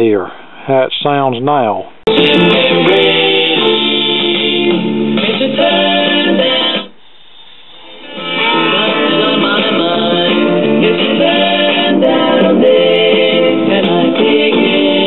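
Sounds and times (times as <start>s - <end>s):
guitar and vocal music from record: 2.1s - 15.0s.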